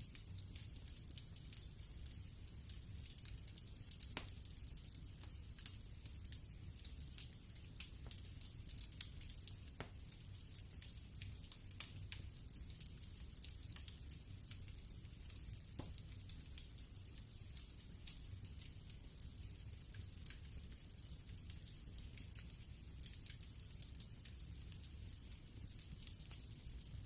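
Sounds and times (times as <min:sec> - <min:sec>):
fire pops and snaps: 0:00.0 - 0:27.0
wood fire crackling: 0:00.0 - 0:27.0.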